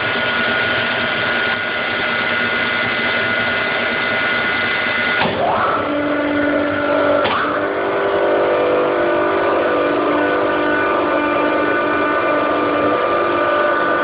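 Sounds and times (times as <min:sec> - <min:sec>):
compressor whine: 0:00.0 - 0:14.0.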